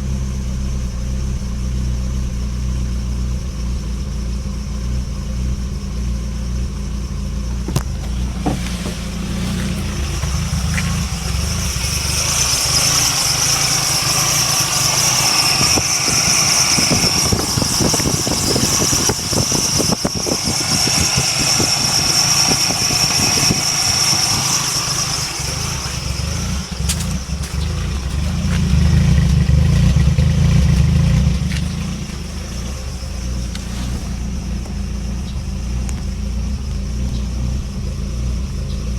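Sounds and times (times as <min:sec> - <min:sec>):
engine rough idle: 0:00.0 - 0:38.9.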